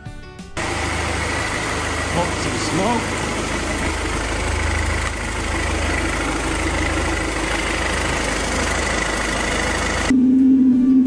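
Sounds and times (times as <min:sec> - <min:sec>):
heater combustion rumble: 0:00.6 - 0:10.3
high fan whine: 0:00.6 - 0:11.0.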